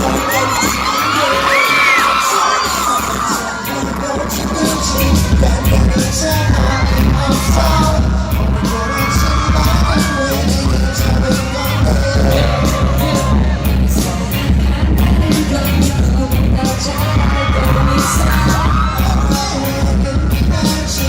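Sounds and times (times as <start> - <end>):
crowd yelling: 0.0 - 21.0
person singing: 0.0 - 21.0
pop music with heavy bass beat: 0.0 - 21.0.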